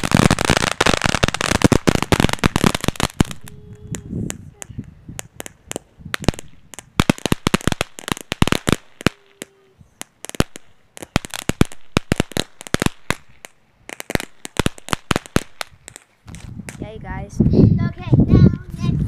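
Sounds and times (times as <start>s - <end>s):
firework crackling pops: 0.0s - 17.0s.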